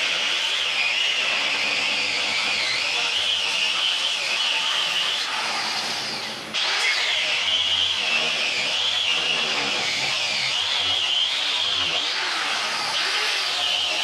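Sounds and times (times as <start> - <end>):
power grinder whining on steel: 0.0 - 14.0.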